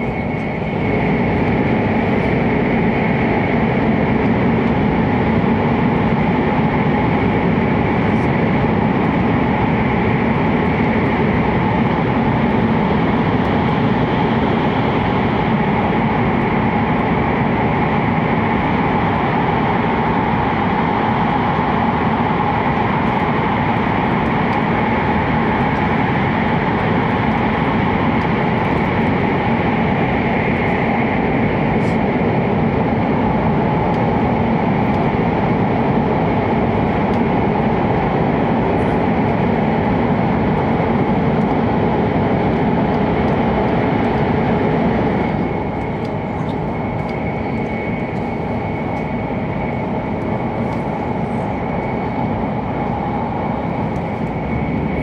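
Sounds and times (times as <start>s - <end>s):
train running noise inside car: 0.0s - 55.0s.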